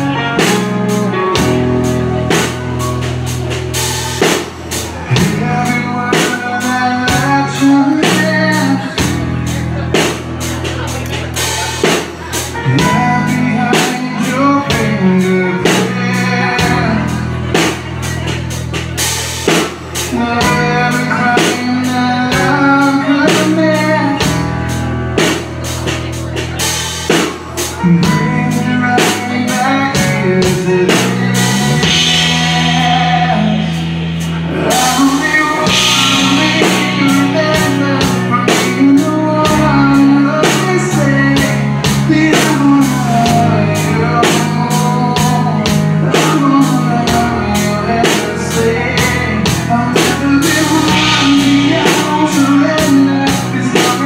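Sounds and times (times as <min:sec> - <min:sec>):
bass guitar: 0:00.0 - 0:54.0
drum kit: 0:00.0 - 0:54.0
electric guitar: 0:00.0 - 0:54.0
male singer: 0:00.0 - 0:54.0.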